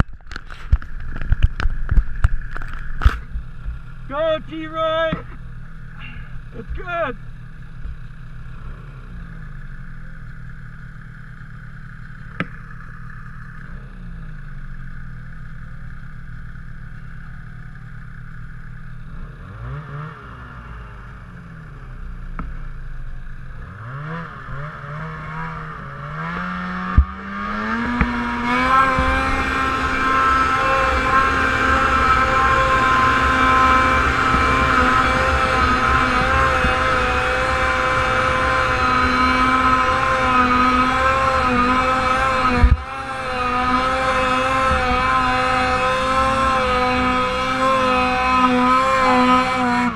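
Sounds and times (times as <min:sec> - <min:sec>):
snowmobile engine revving: 0:00.4 - 0:14.8, 0:17.7 - 0:49.9.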